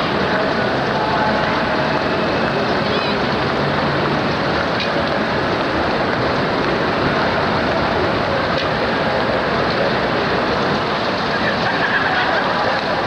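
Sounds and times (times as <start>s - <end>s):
street traffic rushing: 0.0s - 13.0s.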